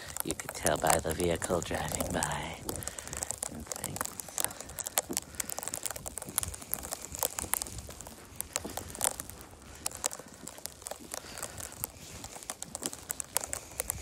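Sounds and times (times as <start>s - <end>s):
footsteps crunching on icy snow: 0.0s - 14.0s.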